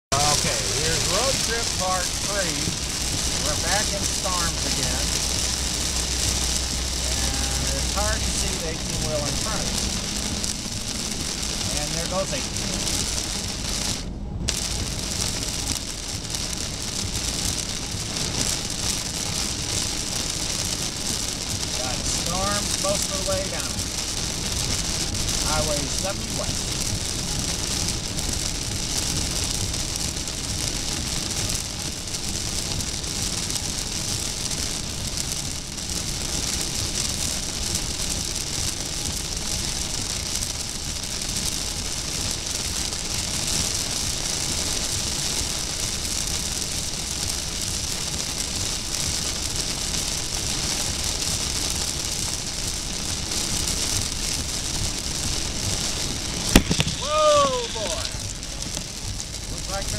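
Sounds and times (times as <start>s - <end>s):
road and engine rumble: 0.0s - 59.9s
heavy rain on car: 0.1s - 59.9s.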